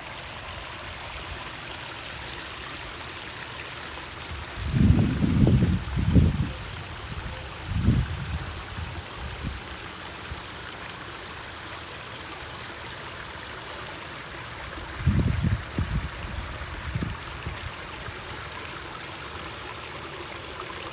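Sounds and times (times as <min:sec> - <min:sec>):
water splashing and trickling: 0:00.0 - 0:20.9.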